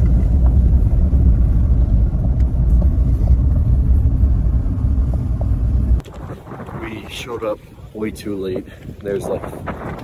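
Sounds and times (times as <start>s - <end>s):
truck engine and tyre rumble: 0.0s - 10.0s.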